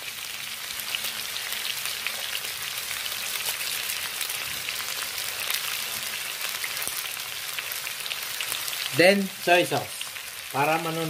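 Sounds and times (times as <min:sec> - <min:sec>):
food sizzling and crackling in oil: 0:00.0 - 0:11.0.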